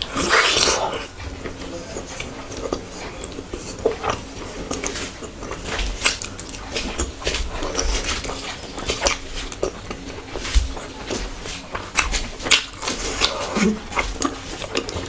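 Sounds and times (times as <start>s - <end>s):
chewing and biting food: 0.0s - 15.0s.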